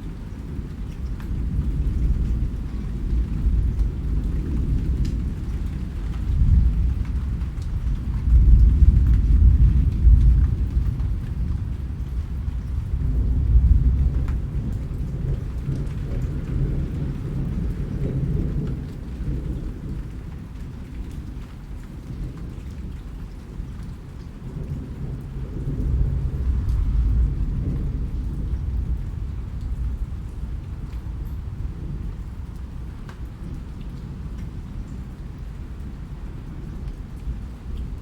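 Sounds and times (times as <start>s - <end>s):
steady rain: 0.0s - 38.0s
rolling thunder: 0.2s - 21.2s, 23.6s - 35.2s.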